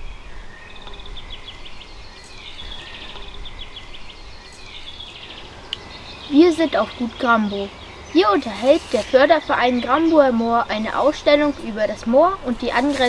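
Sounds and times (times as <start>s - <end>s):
small birds chirping trills: 0.0s - 13.0s.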